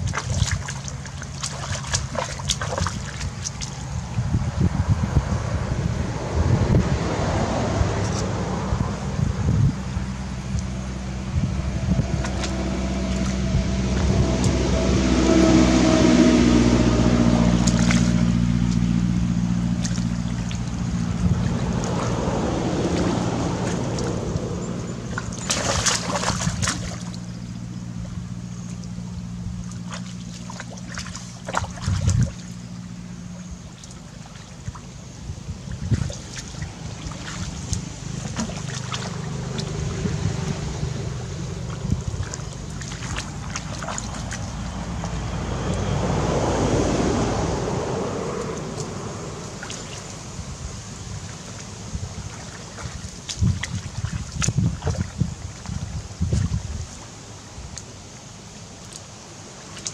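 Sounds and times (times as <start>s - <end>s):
engine drone: 0.0s - 59.9s
muddy water sloshing and splashing: 0.0s - 59.9s.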